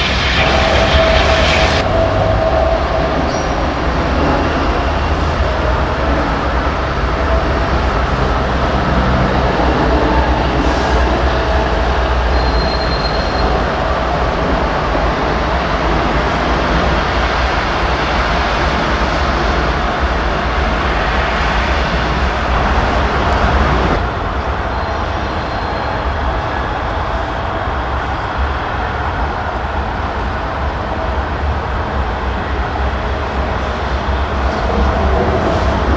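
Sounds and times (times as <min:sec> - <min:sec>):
high-pitched squeal: 0:00.0 - 0:29.9.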